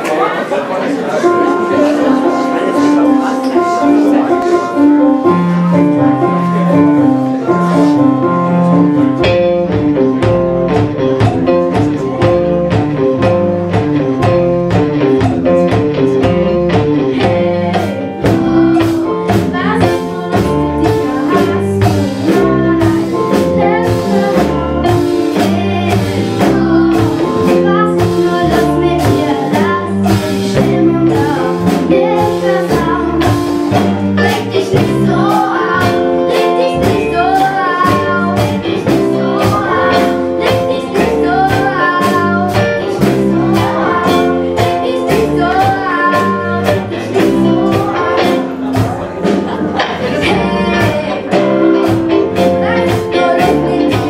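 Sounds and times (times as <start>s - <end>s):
children singing: 0.0s - 8.4s, 15.3s - 54.0s
school band playing: 0.0s - 54.0s
drum beat: 1.2s - 54.0s.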